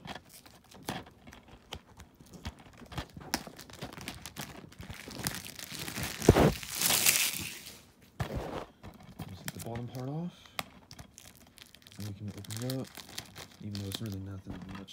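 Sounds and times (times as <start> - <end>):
plastic wrapping crinkling: 0.0 - 7.9, 9.0 - 14.9
plastic tearing: 0.0 - 8.4, 9.0 - 14.9.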